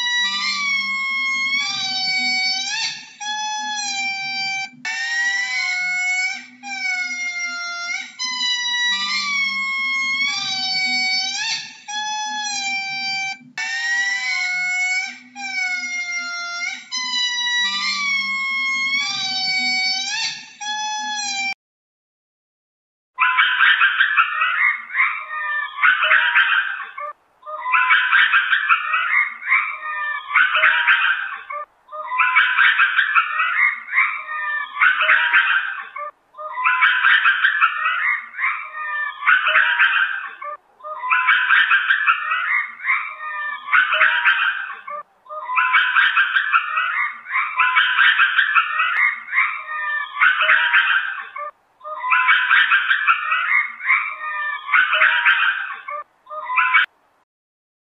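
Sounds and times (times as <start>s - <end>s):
chirping and trilling animal calls: 0.0s - 21.5s, 23.2s - 56.9s
lemur high pulsing cries: 0.0s - 21.6s, 23.2s - 56.9s.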